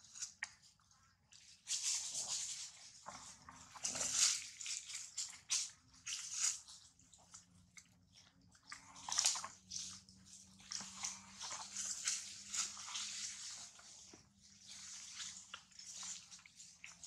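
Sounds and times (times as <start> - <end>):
infant monkey suckling: 0.1 - 17.0.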